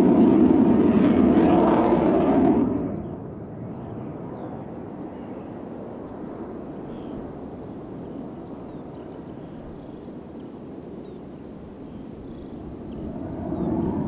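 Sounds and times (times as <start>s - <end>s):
distant jet rumble: 0.0s - 14.0s.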